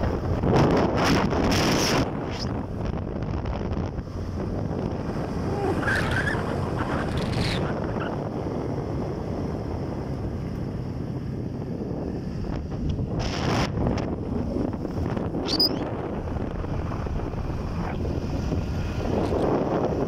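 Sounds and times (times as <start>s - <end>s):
motorcycle engine and tyre rumble: 0.0s - 20.0s
wind rushing over microphone: 0.0s - 20.0s.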